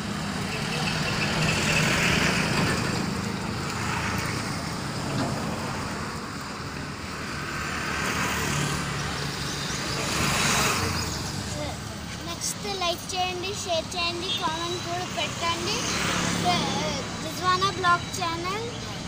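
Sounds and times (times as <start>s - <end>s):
street noise: 0.0s - 19.0s
vehicle engine humming: 0.0s - 19.0s.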